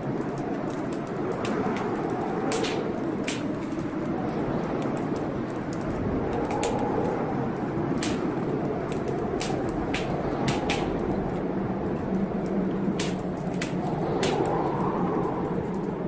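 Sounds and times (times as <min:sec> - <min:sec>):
storm rain rumble: 0:00.0 - 0:16.0
wood fire crackling and popping: 0:00.0 - 0:16.0.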